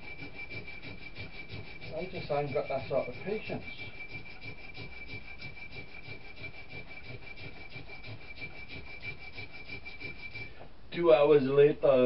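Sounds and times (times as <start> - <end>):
steady high-pitched tone: 0.0 - 10.5
hand sanding rubbing strokes: 0.0 - 10.6.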